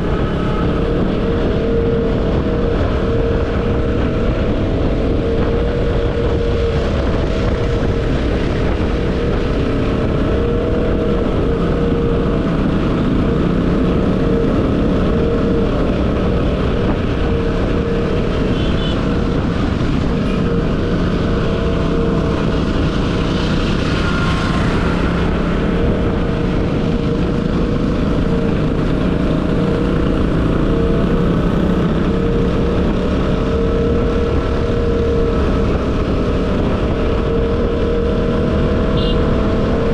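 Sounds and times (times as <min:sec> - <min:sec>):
motorcycle engine cruising: 0:00.0 - 0:39.9
wind rushing past microphone: 0:00.0 - 0:39.9.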